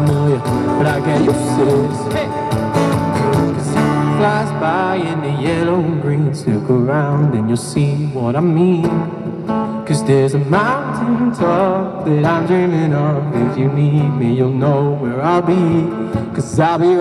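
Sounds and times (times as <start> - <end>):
man singing: 0.0 - 17.0
strummed acoustic guitars: 0.0 - 17.0.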